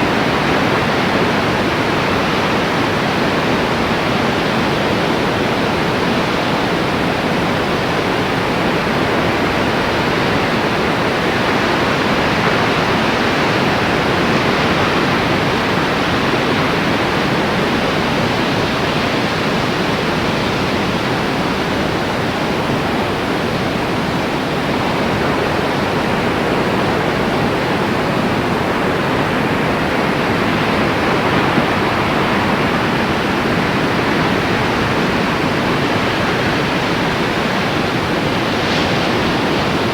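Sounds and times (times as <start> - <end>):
loud steady rushing noise: 0.0 - 39.9.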